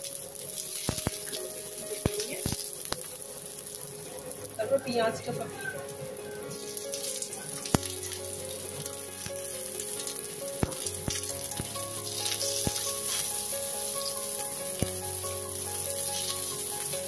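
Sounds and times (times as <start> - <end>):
onion and garlic sizzling in oil: 0.0 - 17.0.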